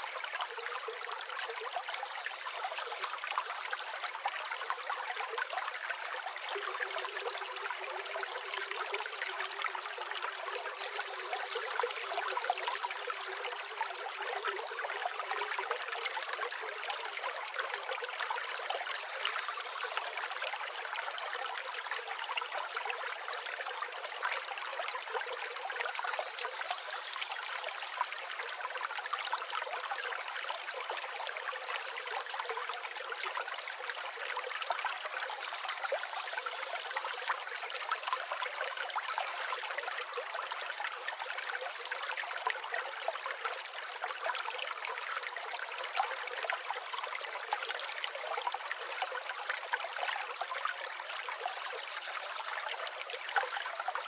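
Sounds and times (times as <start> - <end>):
stream flowing and babbling: 0.0 - 54.0.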